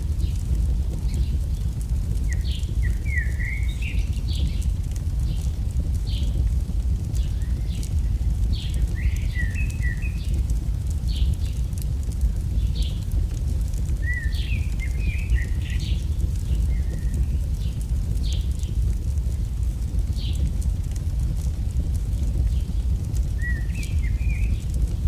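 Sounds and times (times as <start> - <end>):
campfire crackling and popping: 0.0 - 25.0
small birds chirping: 0.0 - 25.0.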